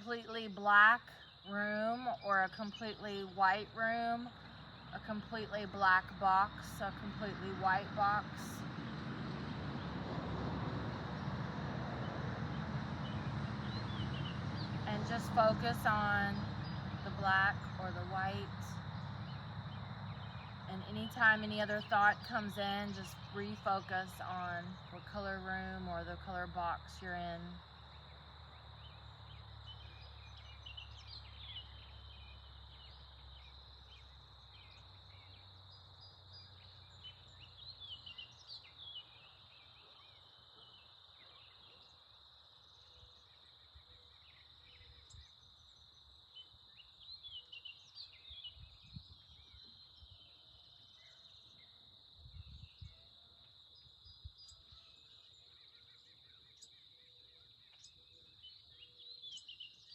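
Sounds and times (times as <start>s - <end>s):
birds chirping and trilling: 0.0s - 10.0s, 12.0s - 42.0s, 42.7s - 53.2s, 53.8s - 59.9s.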